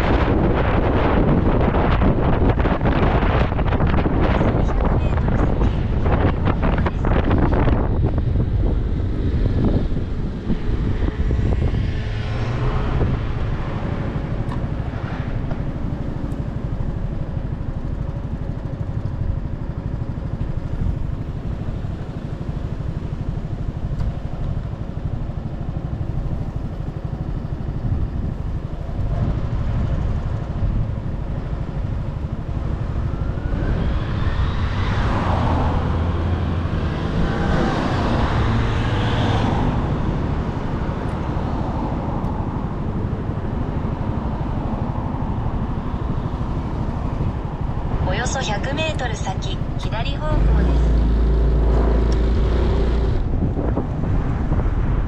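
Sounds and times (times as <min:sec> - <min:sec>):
motorcycle engine rumble: 0:00.0 - 0:55.0
wind on microphone: 0:00.0 - 0:55.0.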